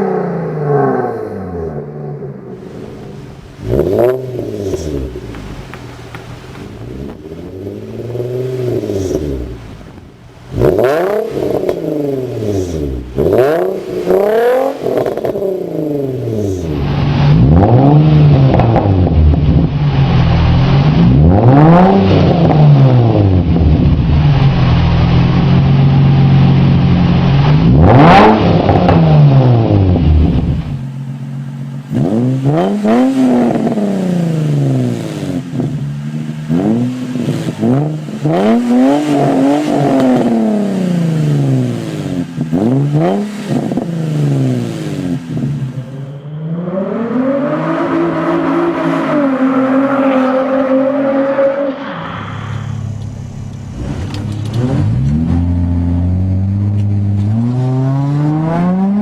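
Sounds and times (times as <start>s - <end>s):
car exhaust revving: 0.0s - 59.0s.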